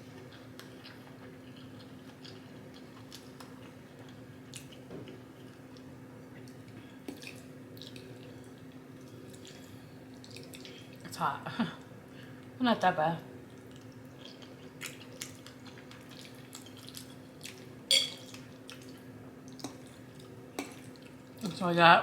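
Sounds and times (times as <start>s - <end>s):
faint steady hum: 0.0s - 22.0s
person chewing food: 0.1s - 11.0s, 13.5s - 21.2s.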